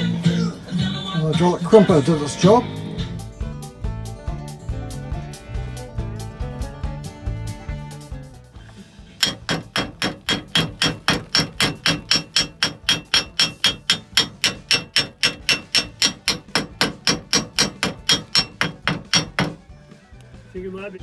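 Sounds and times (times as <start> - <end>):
hammer blows on metal: 1.4 - 19.8.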